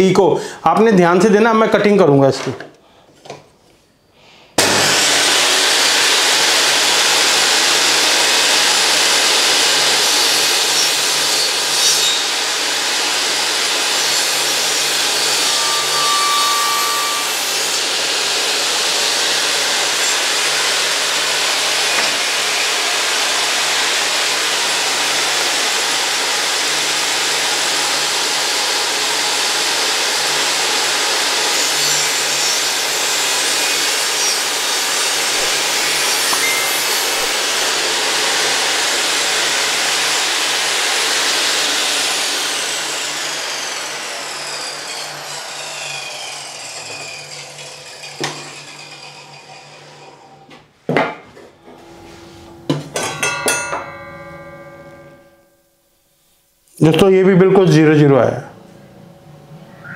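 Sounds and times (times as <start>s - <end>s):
table saw cutting wood: 4.6s - 55.4s.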